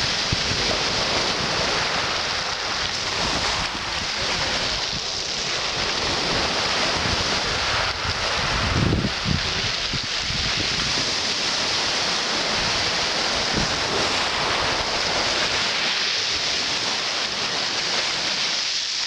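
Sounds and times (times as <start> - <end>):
wind buffeting microphone: 0.0 - 16.8
waves breaking on beach: 0.0 - 19.0.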